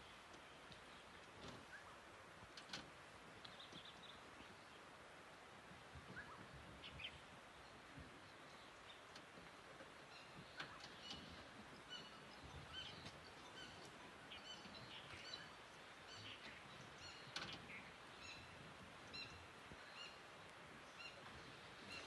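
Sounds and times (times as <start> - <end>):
low steady background hiss: 0.0 - 22.0.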